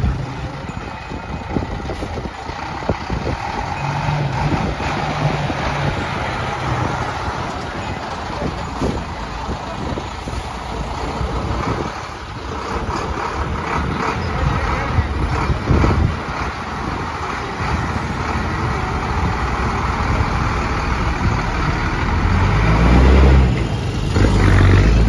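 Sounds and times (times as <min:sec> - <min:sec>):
bus engine passing: 0:00.0 - 0:25.0.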